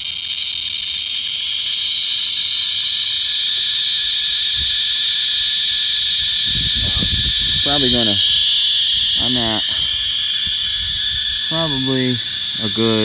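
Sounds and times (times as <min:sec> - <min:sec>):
geiger counter buzzing: 0:00.0 - 0:13.0.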